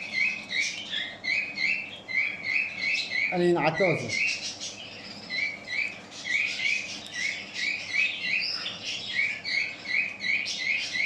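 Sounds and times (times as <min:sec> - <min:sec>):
birds chirping: 0:00.0 - 0:11.0
other birds calling: 0:00.0 - 0:11.0.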